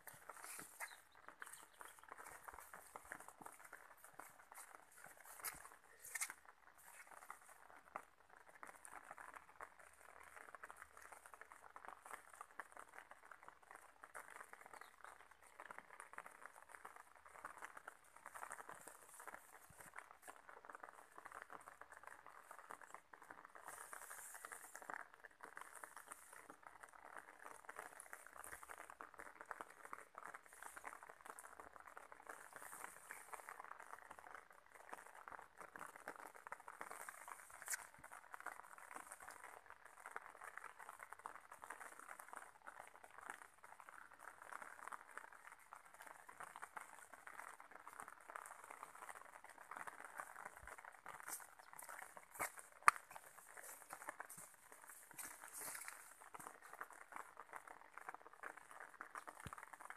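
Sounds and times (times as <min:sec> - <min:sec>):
watery patter with crackling: 0:00.0 - 0:59.9.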